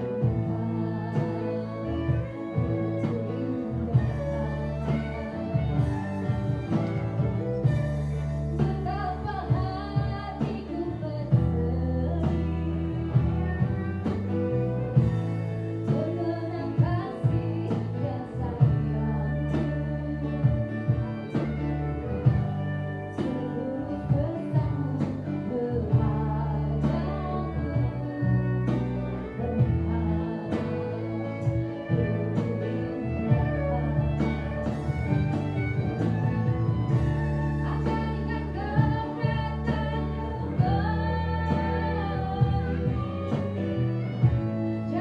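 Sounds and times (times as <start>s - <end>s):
bass notes: 0.0s - 45.0s
guitar: 0.0s - 45.0s
person singing: 0.0s - 45.0s.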